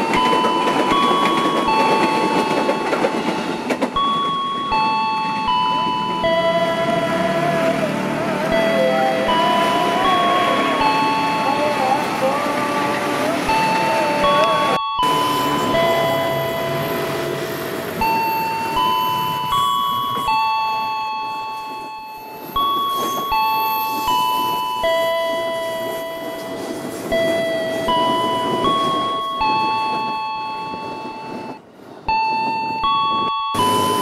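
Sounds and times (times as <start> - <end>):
chime-like bell melody: 0.0 - 34.0.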